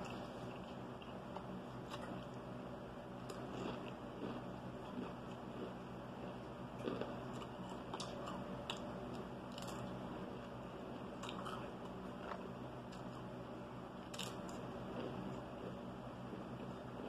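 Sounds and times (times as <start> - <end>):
person chewing crunchy food: 0.0 - 2.6, 3.2 - 13.4, 14.0 - 17.0
steady low hum: 0.0 - 17.0.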